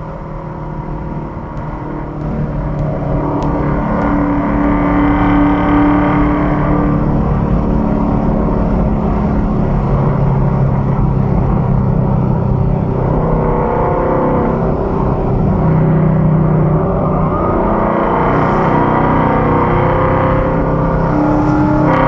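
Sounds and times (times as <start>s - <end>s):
car engine cruising: 0.0s - 22.0s
road noise inside car: 0.0s - 22.0s.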